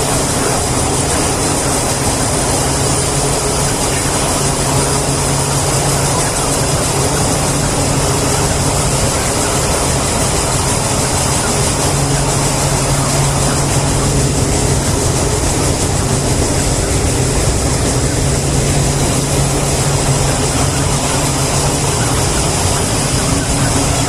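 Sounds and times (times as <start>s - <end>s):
mechanical drone: 0.0s - 24.0s.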